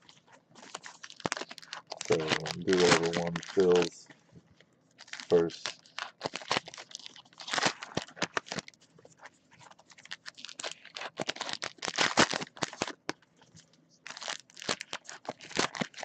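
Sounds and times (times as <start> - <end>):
card pack wrappers tearing and crinkling: 0.0 - 4.0, 5.0 - 8.8, 9.6 - 13.2, 14.0 - 16.0.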